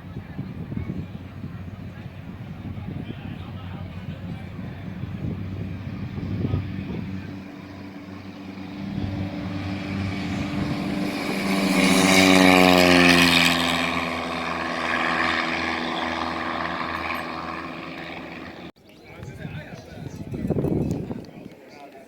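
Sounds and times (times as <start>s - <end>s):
propeller airplane flying past: 0.0s - 18.7s.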